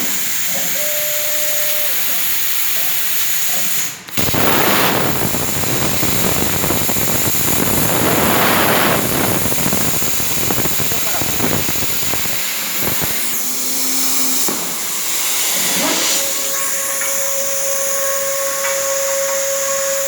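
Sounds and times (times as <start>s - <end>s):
plasma cutter hissing: 0.0s - 20.0s.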